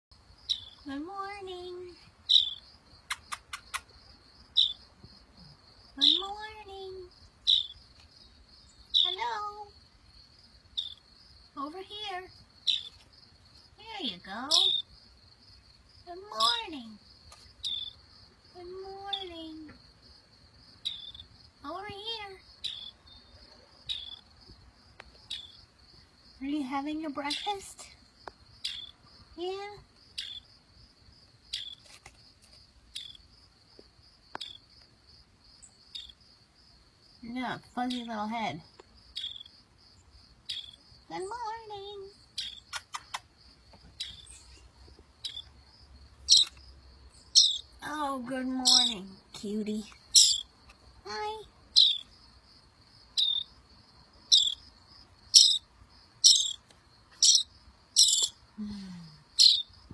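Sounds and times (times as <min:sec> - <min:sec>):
crickets chirring: 0:00.1 - 0:59.9.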